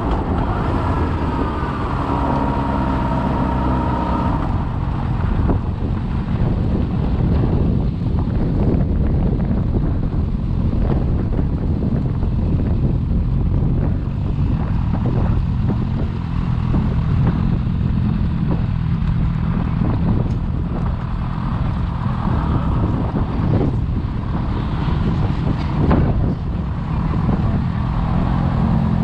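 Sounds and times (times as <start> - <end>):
motorcycle engine running slowly: 0.0 - 29.0.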